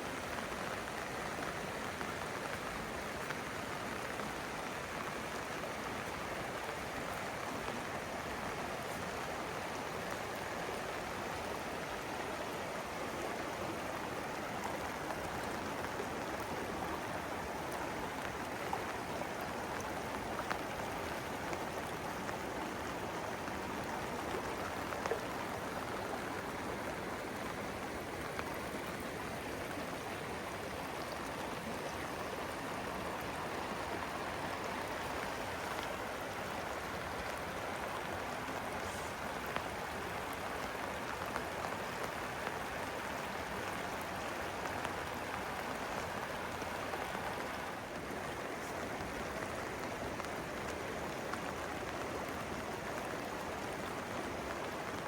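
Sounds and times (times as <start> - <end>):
running water: 0.0 - 55.0
steady rain falling: 0.0 - 55.0.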